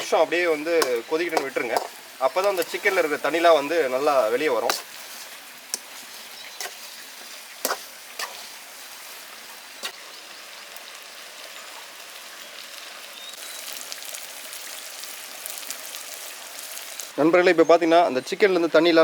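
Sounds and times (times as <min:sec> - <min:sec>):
chicken sizzling in a pan: 0:00.0 - 0:17.2.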